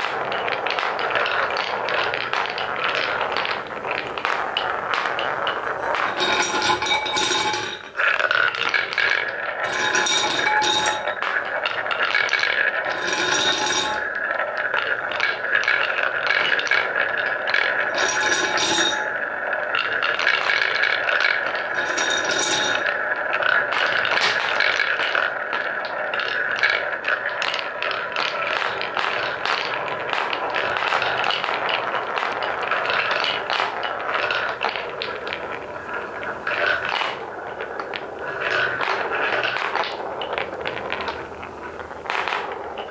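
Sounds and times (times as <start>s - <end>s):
wooden balls rolling and clacking: 0.0s - 42.9s.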